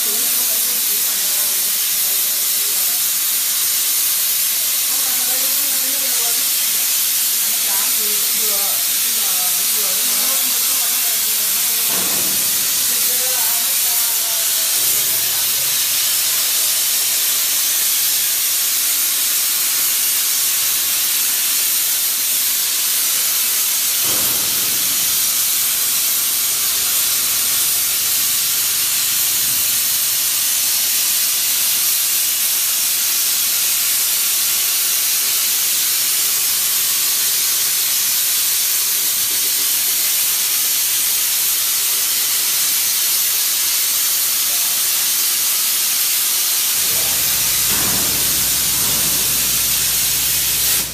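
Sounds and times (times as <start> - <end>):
plasma cutter hissing: 0.0 - 50.9.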